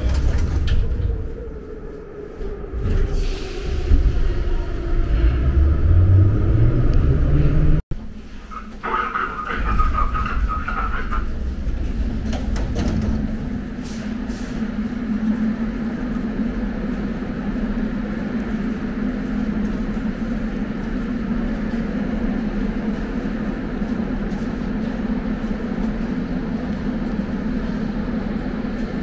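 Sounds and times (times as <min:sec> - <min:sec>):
train carriage rumble: 0:00.0 - 0:29.0
standing train humming: 0:03.5 - 0:29.0.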